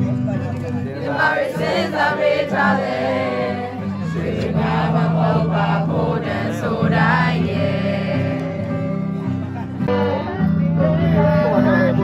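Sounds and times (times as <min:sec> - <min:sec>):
instrumental accompaniment: 0:00.0 - 0:12.0
crowd singing in chorus: 0:00.8 - 0:12.0.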